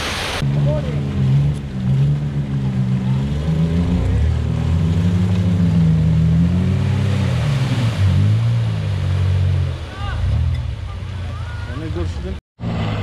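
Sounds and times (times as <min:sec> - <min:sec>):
vehicle churning through mud: 0:00.0 - 0:13.0.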